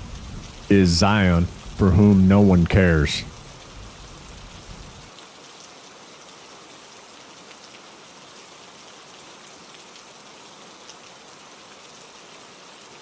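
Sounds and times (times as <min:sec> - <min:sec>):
rain drops pattering: 0:00.0 - 0:13.0.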